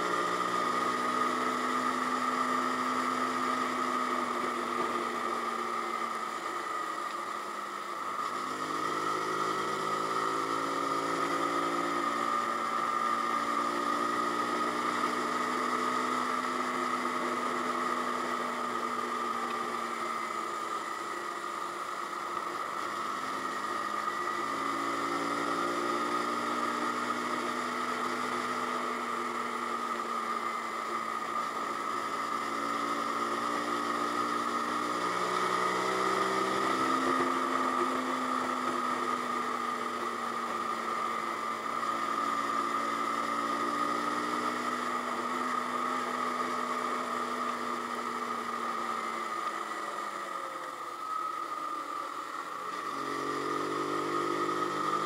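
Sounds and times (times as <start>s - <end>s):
motorcycle engine accelerating: 0.0s - 7.0s, 7.6s - 55.0s
constant high hum: 0.0s - 54.7s
wind and road noise: 0.0s - 55.0s.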